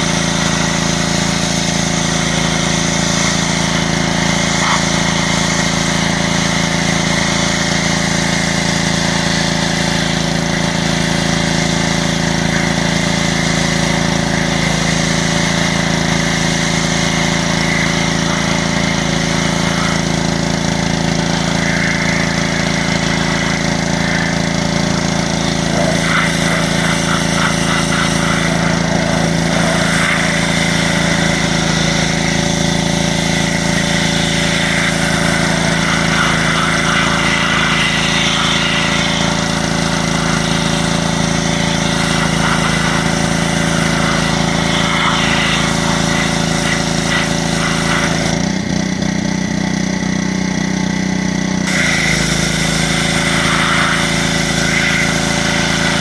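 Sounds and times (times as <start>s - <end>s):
pressure washer engine drone: 0.0s - 56.0s.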